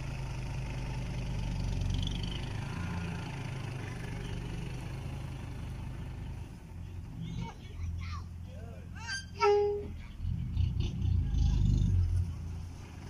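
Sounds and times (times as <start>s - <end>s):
dump truck diesel engine: 0.0s - 13.0s.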